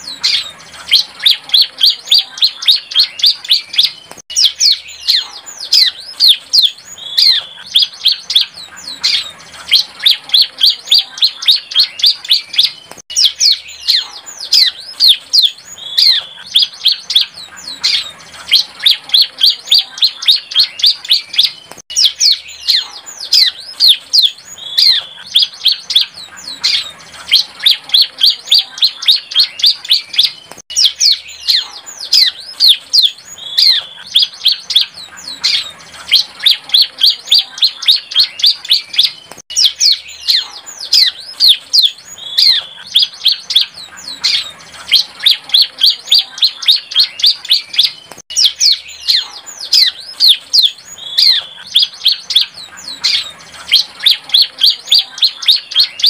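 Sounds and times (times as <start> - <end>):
bird chirping song: 0.0 - 56.0.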